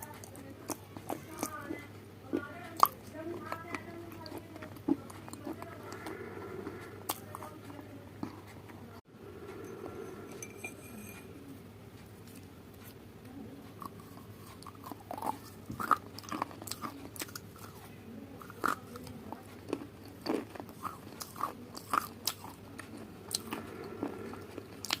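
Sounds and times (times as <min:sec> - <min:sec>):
chewing crunchy food: 0:00.0 - 0:13.0, 0:13.6 - 0:25.0.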